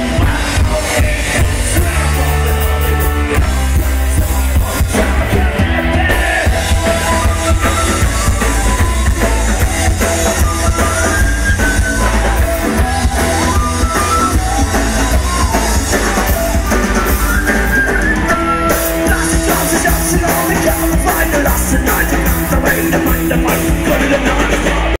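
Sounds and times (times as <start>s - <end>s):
live rock band: 0.0s - 25.0s
person singing: 0.0s - 25.0s
drum beat: 0.1s - 25.0s.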